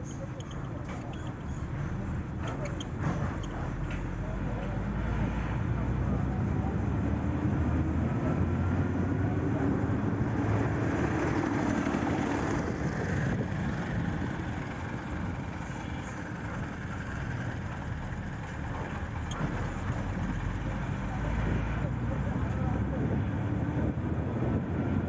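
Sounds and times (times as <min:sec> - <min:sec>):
vehicle engines rumbling: 0:00.0 - 0:25.0.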